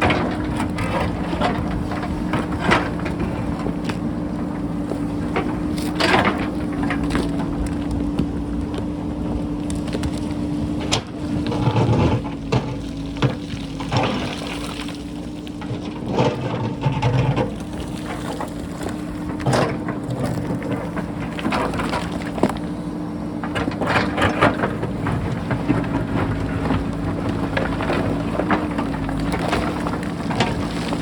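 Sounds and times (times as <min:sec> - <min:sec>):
diesel engine running under load: 0:00.0 - 0:31.0.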